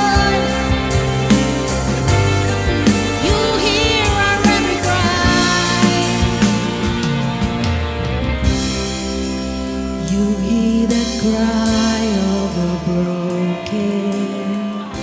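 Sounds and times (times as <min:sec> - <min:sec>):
worship band playing slow song: 0:00.0 - 0:15.0.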